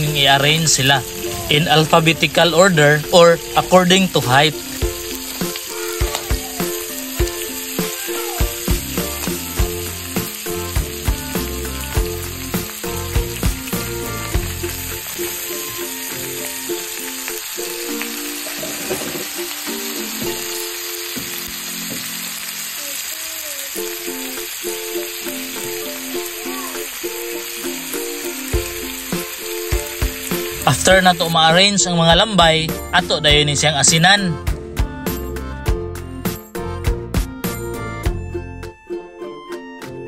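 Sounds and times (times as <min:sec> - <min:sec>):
food sizzling in a wok: 0:00.0 - 0:33.1.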